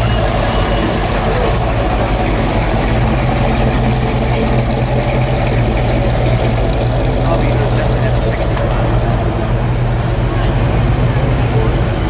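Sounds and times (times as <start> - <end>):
car engine idling low: 0.0 - 12.0.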